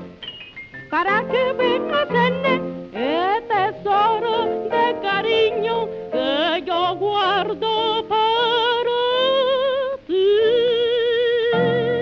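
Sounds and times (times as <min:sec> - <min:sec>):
woman singing with orchestra: 0:00.9 - 0:12.0.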